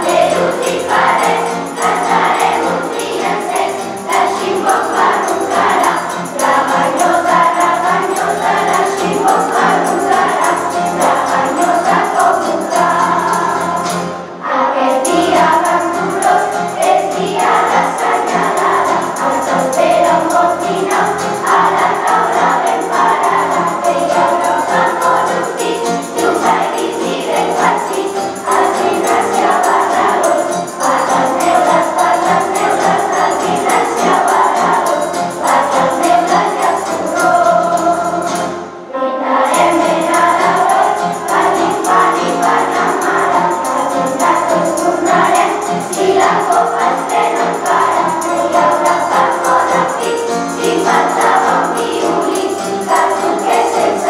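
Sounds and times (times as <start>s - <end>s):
acoustic guitar: 0.0s - 54.0s
children's choir singing: 0.0s - 54.0s.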